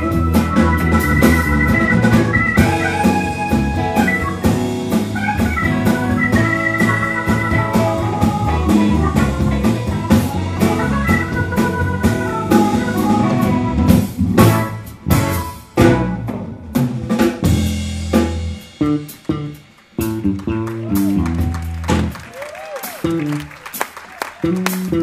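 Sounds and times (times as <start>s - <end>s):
held keyboard chords: 0.0s - 22.3s
band playing accented hits: 0.0s - 25.0s
live blues band playing: 0.0s - 25.0s
steady drum beat: 0.0s - 25.0s.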